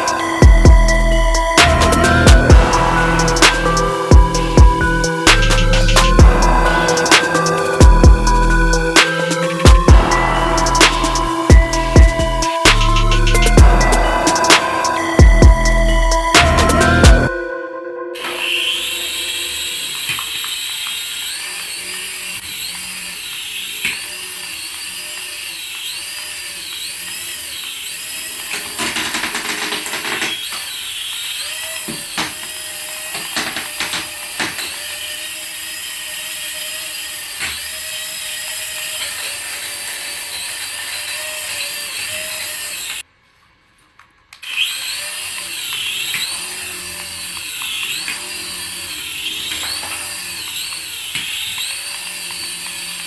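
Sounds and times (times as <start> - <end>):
toy electric motor whirring: 0.0 - 17.3, 18.2 - 43.1, 44.3 - 53.0
warbling electronic tone: 0.0 - 43.0.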